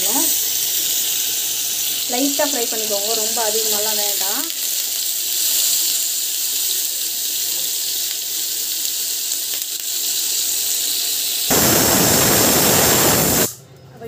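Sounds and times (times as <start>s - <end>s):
cheese sizzling in oil: 0.0s - 13.6s
pressure cooker whistle hissing: 0.0s - 13.6s.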